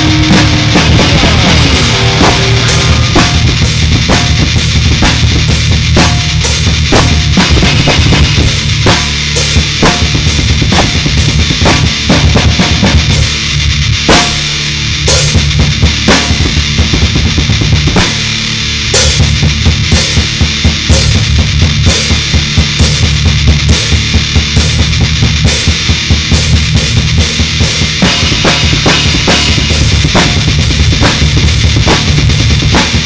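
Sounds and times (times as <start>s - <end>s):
drum kit beat: 0.0s - 33.0s
heavy rock music: 0.0s - 33.0s.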